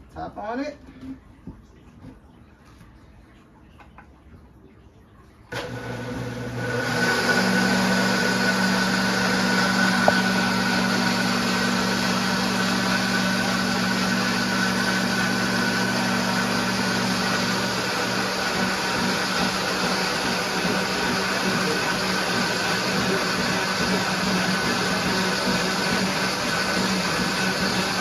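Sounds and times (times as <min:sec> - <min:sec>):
kitchen appliance humming: 0:05.5 - 0:28.0.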